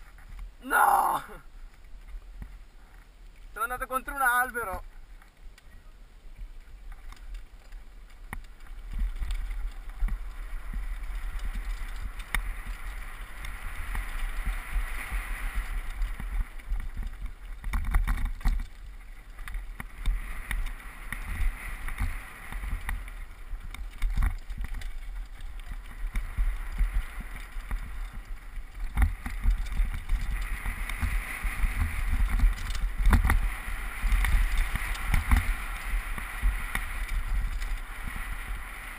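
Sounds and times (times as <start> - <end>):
wind rumbling on microphone: 0.0 - 38.9
bike rattling over bumps: 6.5 - 38.9
tyres rolling over gravel: 6.5 - 38.9.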